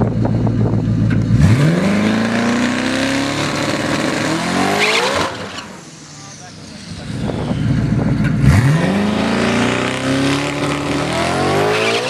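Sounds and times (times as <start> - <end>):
car engine rumbling and accelerating: 0.0 - 12.0.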